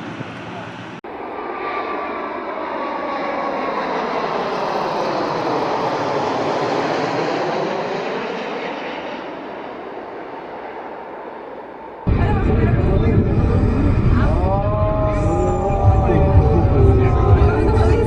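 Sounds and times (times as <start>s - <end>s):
airplane flying past: 0.0s - 18.0s.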